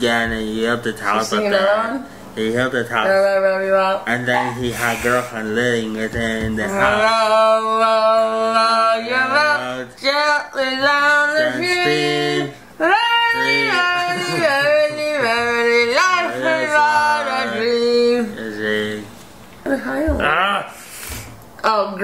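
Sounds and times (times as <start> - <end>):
man and woman singing together: 0.0 - 18.8.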